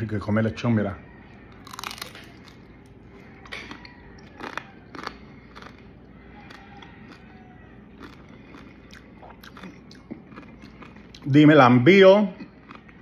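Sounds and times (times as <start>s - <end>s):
person chewing crispy food: 1.3s - 13.0s.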